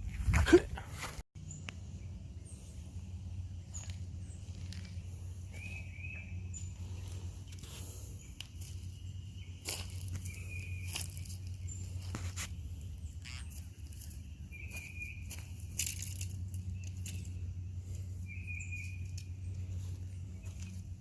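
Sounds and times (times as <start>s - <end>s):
steady low hum: 0.0s - 21.0s
bird chirps: 1.4s - 20.9s.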